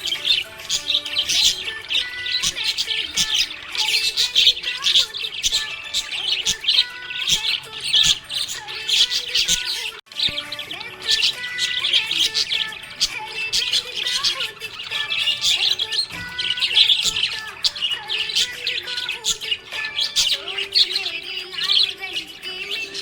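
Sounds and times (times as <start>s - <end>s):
budgerigars chirping and warbling: 0.0s - 23.0s.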